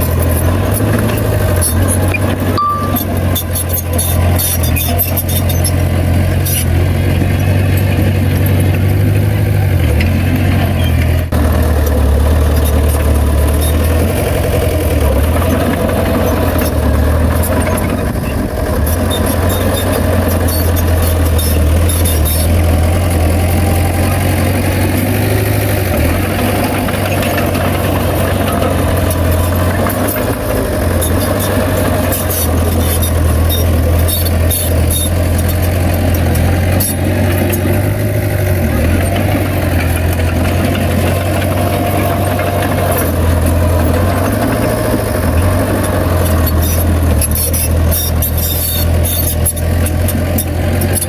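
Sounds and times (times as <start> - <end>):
heavy diesel engine rumbling: 0.0 - 51.0.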